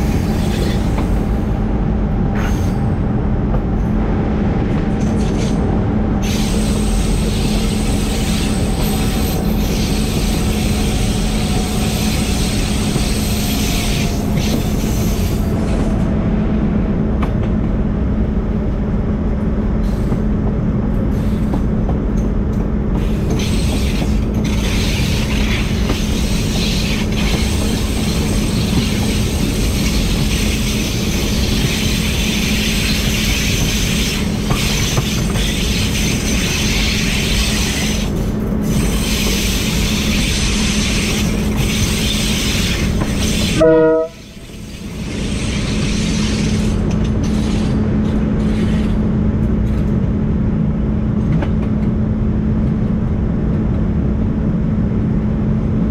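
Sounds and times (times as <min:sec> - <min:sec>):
diesel locomotive engine drone: 0:00.0 - 0:55.9
train rumbling: 0:00.0 - 0:55.9.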